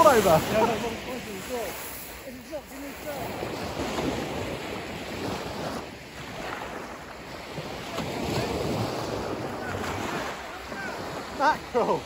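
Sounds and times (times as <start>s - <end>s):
wind on microphone: 0.0s - 11.7s
small waves breaking: 0.0s - 12.0s.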